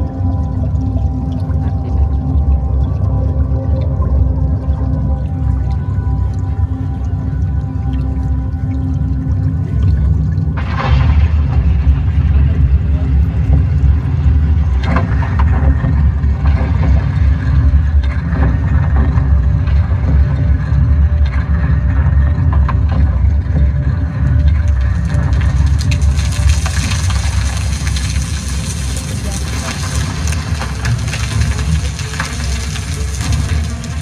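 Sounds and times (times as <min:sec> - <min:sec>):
deep rumble from loudspeakers: 0:00.0 - 0:34.0.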